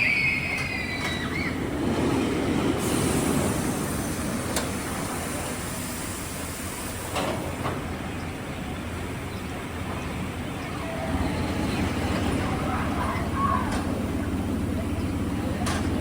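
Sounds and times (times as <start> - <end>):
ride train rumbling on track: 0.0 - 16.0.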